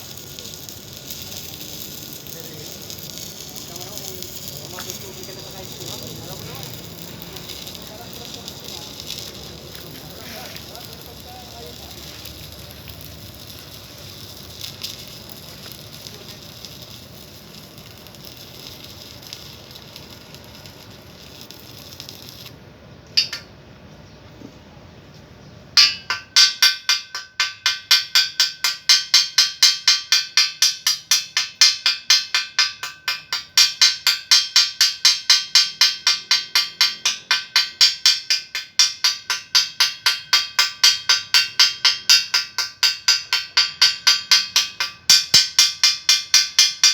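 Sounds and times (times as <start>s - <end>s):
electric arc welding crackle: 0.0s - 23.4s, 25.8s - 46.9s.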